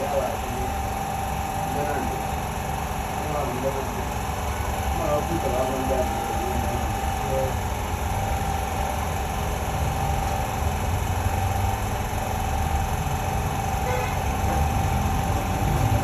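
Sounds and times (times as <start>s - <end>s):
constant machine whine: 0.0s - 16.0s
machine hiss and rumble: 0.0s - 16.0s.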